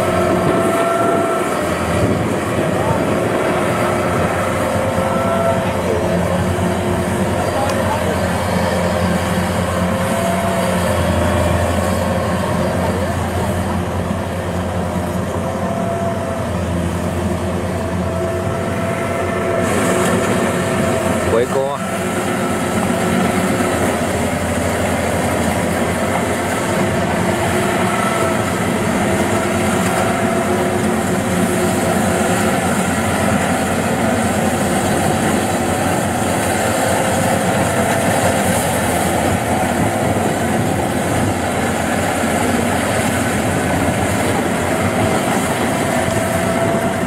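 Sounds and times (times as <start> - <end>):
combine harvester engine and machinery: 0.0 - 47.0.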